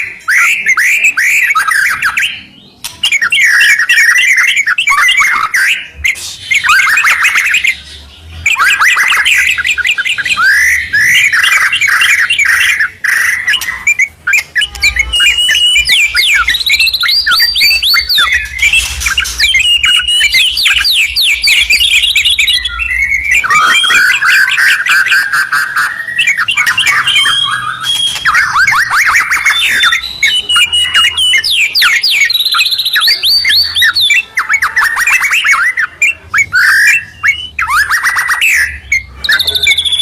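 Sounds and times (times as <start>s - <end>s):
birds singing whistled notes: 0.0s - 40.0s.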